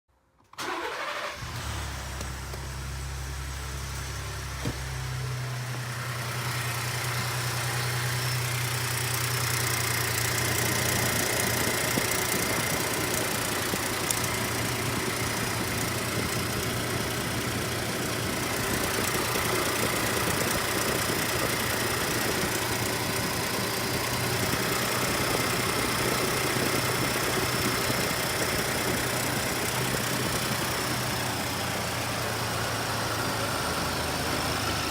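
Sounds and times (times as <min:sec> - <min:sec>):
car engine idling: 0:00.6 - 0:34.9
engine ticking: 0:00.6 - 0:34.9.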